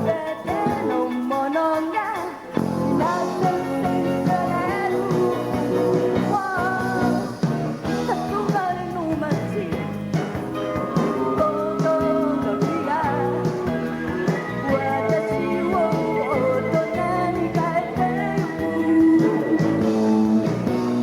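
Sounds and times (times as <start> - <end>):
woman singing lead vocal: 0.0 - 10.0, 11.0 - 13.8, 14.6 - 19.8
live band playing rock and roll: 0.0 - 21.0.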